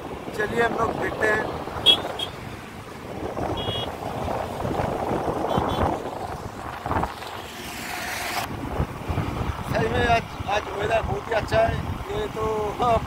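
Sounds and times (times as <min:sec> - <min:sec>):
motorcycle riding: 0:00.0 - 0:13.0
wind buffeting microphone: 0:00.0 - 0:13.0.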